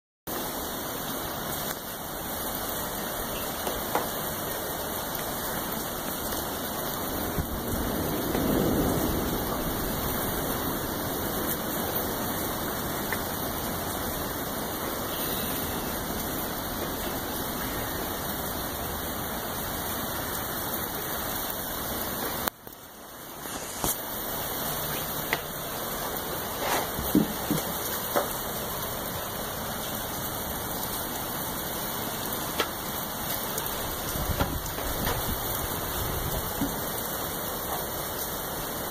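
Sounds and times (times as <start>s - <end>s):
heavy rain falling: 0.3s - 38.9s.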